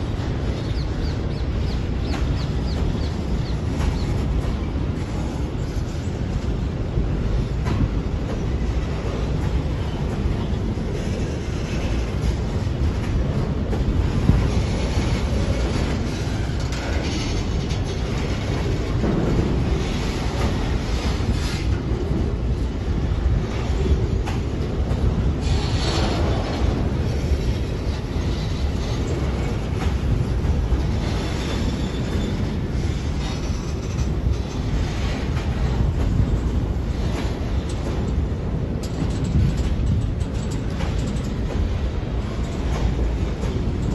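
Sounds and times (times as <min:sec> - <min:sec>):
freight train rolling past: 0:00.0 - 0:43.9.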